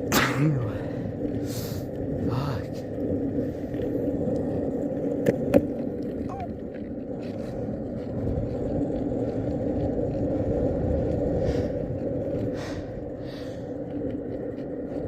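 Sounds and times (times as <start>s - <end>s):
skateboard wheels rolling on pavement: 0.0s - 15.0s.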